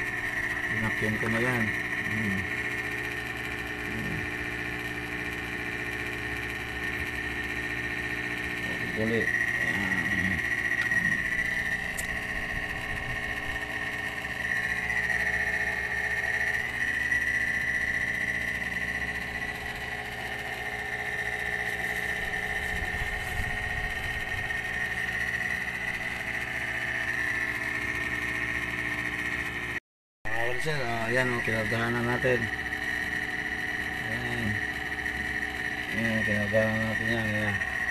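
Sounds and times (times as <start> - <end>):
small electric motor whining: 0.0 - 29.7, 30.4 - 37.9.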